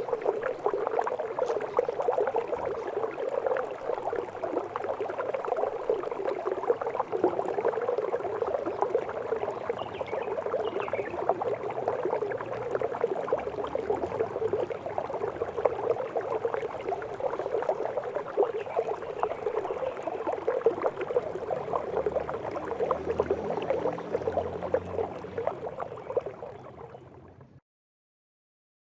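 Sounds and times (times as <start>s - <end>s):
water trickling down small waterfall: 0.0s - 27.6s.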